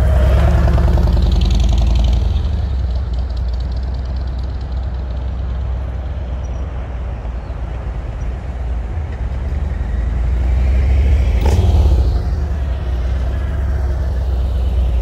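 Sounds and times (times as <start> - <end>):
motorcycle engine rumbling: 0.0 - 7.5, 8.6 - 15.0.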